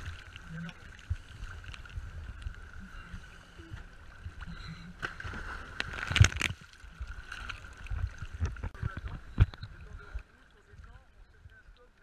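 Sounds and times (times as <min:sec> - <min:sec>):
water splash: 0:00.0 - 0:10.6
muffled water sloshing: 0:00.0 - 0:12.0.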